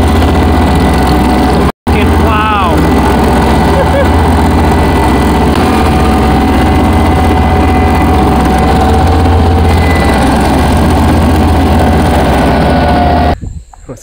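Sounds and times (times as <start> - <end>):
mower blades cutting grass: 0.0 - 13.4
riding mower engine hum: 0.0 - 13.4.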